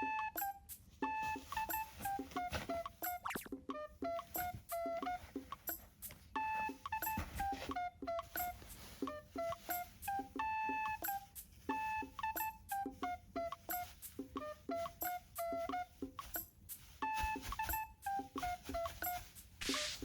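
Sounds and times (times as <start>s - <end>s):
light tune of beeping notes: 0.0s - 20.0s.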